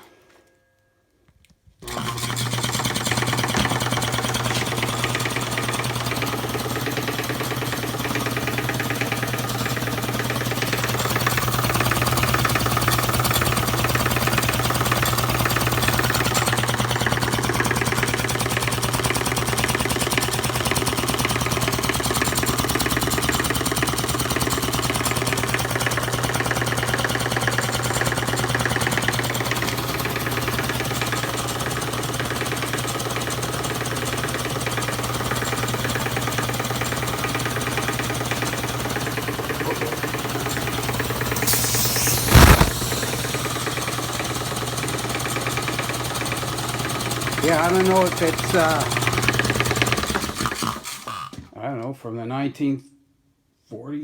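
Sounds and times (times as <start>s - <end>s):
air compressor clattering: 2.0s - 51.5s.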